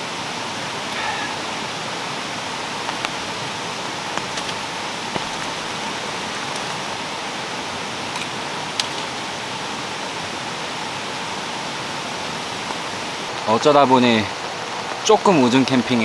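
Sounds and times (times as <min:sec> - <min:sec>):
heavy rain falling: 0:00.0 - 0:16.0
raindrops tapping: 0:00.4 - 0:16.0.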